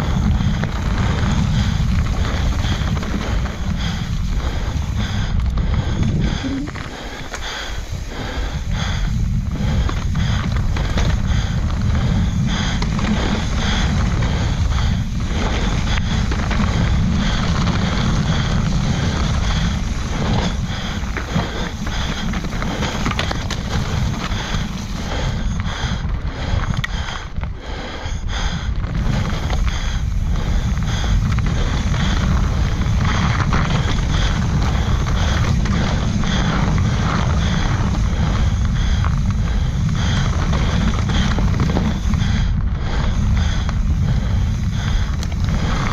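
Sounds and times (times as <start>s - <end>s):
bike knocks and rattles: 0.0s - 27.6s, 28.3s - 45.9s
bike tyre noise: 0.0s - 45.9s
wind buffeting microphone: 0.0s - 45.9s.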